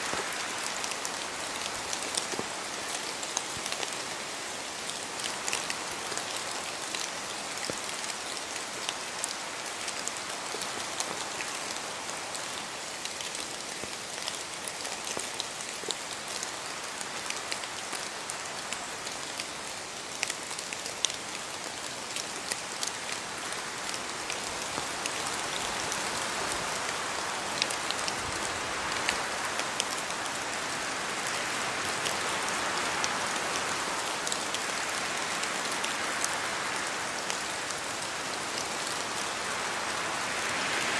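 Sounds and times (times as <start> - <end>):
rain on forest trees: 0.0 - 40.9.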